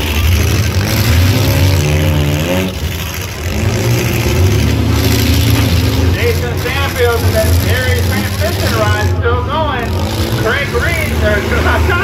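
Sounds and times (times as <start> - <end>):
car engines running hard: 0.0 - 12.0
engine revving whine: 0.0 - 12.0.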